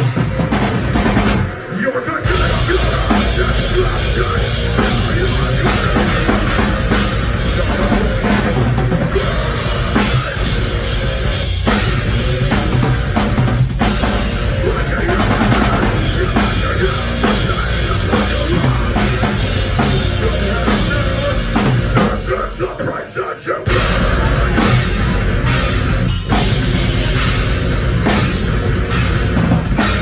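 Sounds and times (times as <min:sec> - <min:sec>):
metalcore band playing live: 0:00.0 - 0:30.0.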